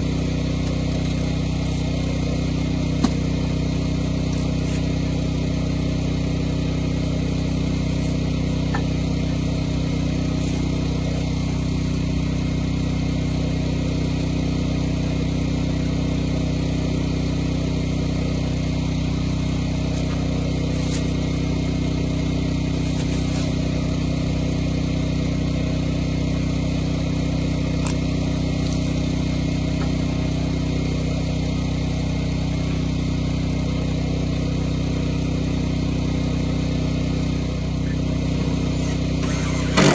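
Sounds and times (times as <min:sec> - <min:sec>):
generator engine running: 0:00.0 - 0:39.9.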